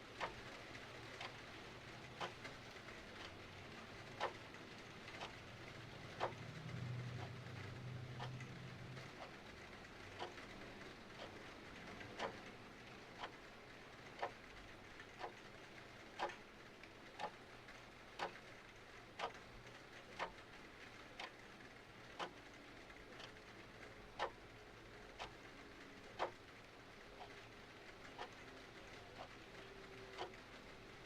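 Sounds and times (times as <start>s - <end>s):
clock ticking: 0.1s - 31.0s.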